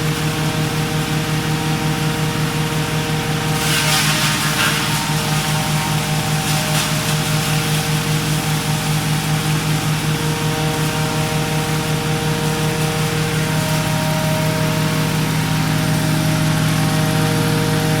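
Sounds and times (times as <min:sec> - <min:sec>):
wood chipper engine humming: 0:00.0 - 0:18.0.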